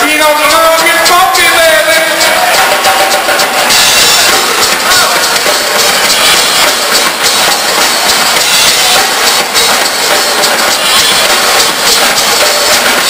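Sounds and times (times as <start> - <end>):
live rock band playing loud: 0.0 - 13.0.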